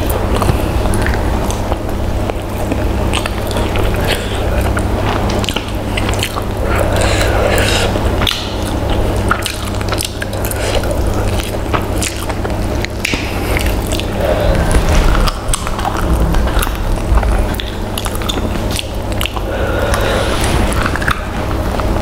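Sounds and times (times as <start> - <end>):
chewing and wet smacking: 0.0 - 22.0
low hum: 0.0 - 22.0.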